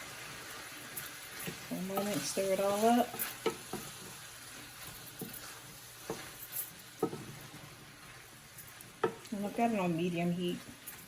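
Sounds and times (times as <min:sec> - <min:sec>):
onions and tomatoes sizzling: 0:00.0 - 0:11.0.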